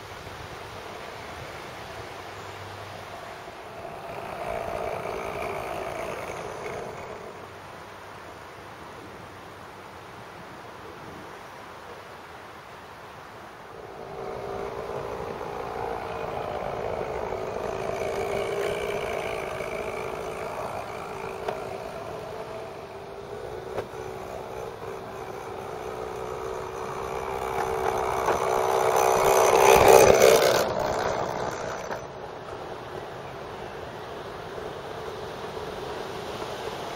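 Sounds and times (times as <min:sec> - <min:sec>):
model train motor whine: 0:01.2 - 0:09.0, 0:13.4 - 0:36.9.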